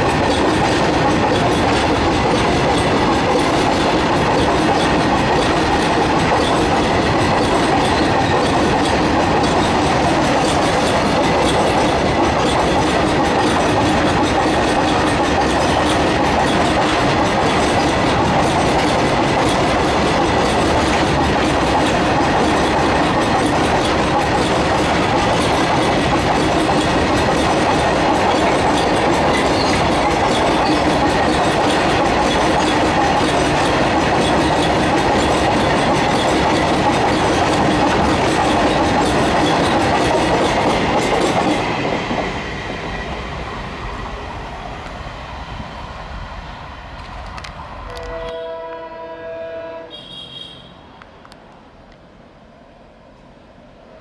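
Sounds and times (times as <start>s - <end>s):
train wheels running over rails: 0.0s - 48.9s.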